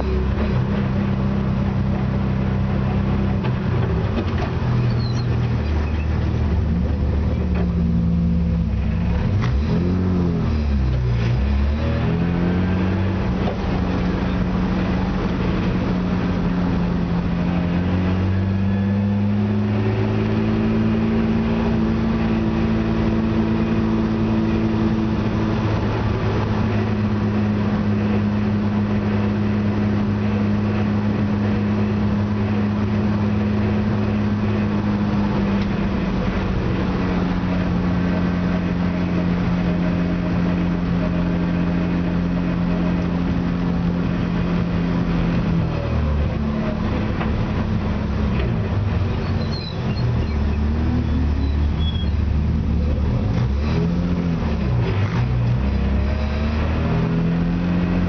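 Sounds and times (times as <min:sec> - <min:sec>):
car engine running at low revs: 0:00.0 - 0:58.0.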